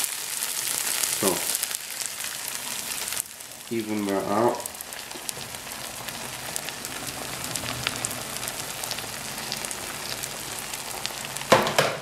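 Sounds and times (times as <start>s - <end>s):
egg frying in a pan: 0.0s - 12.0s.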